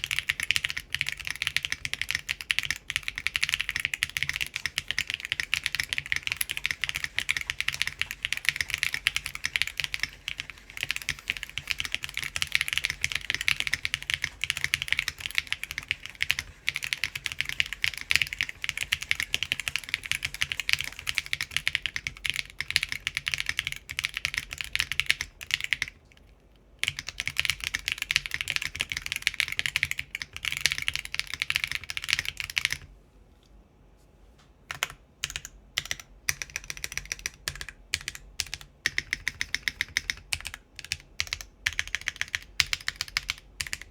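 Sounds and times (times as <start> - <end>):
fast typing on mechanical keyboard: 0.0 - 32.9, 34.7 - 43.9.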